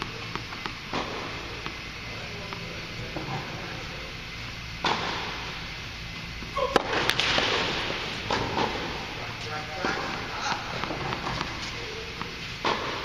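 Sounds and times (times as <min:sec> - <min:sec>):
rackets hitting tennis balls: 0:00.0 - 0:13.0.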